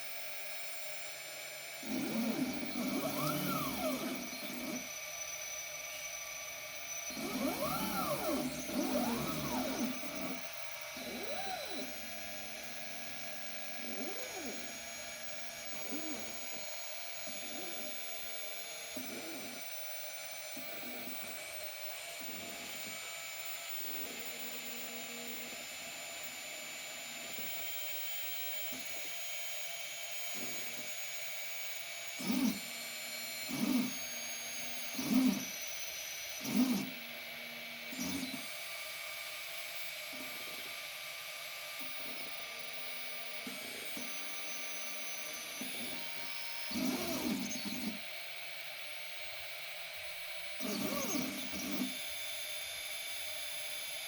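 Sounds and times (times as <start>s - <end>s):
robotic arm motors whining: 0.4s - 54.0s.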